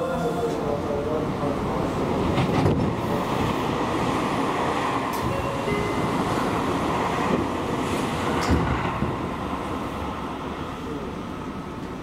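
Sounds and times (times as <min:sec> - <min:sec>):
train wheels rumbling on rail: 0:00.2 - 0:12.0.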